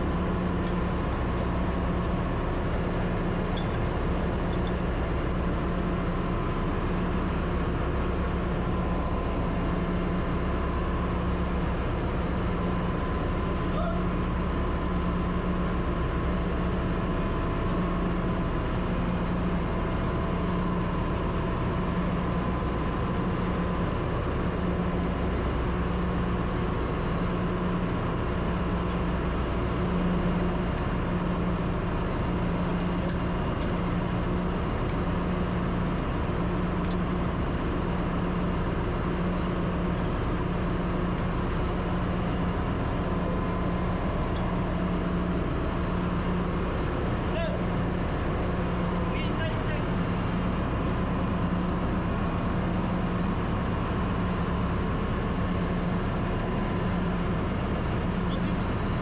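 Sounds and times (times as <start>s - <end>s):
engine room machinery hum: 0.0s - 59.0s
faint steady whine: 0.0s - 59.0s.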